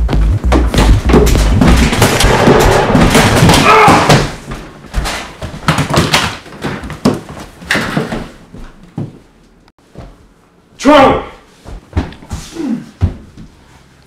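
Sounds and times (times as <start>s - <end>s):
footsteps on wooden floor: 0.0s - 3.6s, 4.4s - 10.5s, 11.6s - 13.8s.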